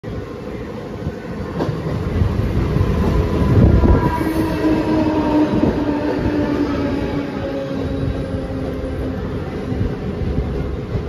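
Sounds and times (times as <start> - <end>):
train wheels rumbling on rails: 0.1 - 11.0.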